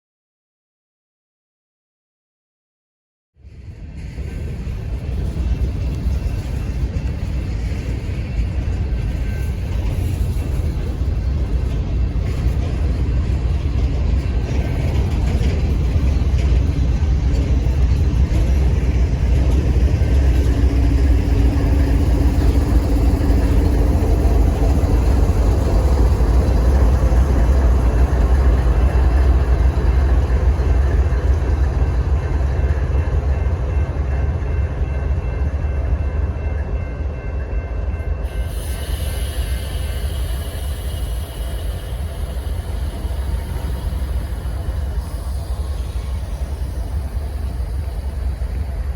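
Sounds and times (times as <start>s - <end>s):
freight train rumbling past: 3.4s - 48.9s.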